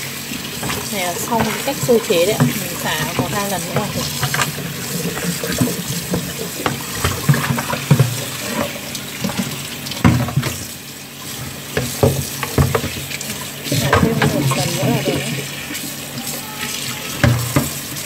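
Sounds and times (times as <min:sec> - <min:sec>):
kitchen tap running: 0:00.0 - 0:18.0
splashes of rinsing a chicken: 0:00.0 - 0:18.0.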